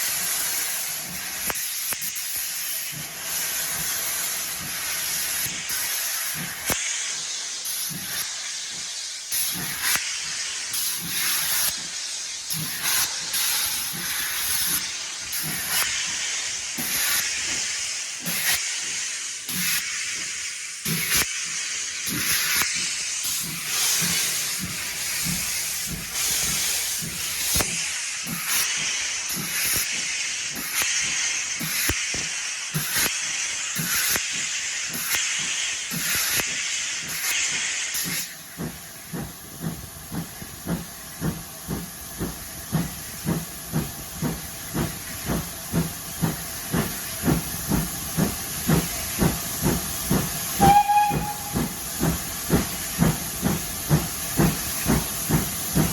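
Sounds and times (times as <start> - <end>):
steam hissing: 0.0 - 55.9
steam locomotive exhaust beats: 0.0 - 55.9.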